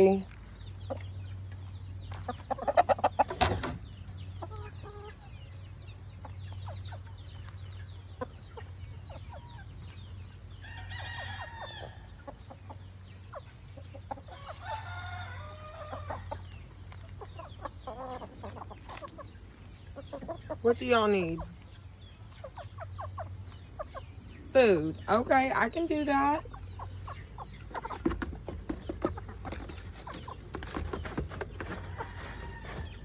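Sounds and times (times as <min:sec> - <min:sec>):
chickens clucking and squawking: 0:00.0 - 0:33.0.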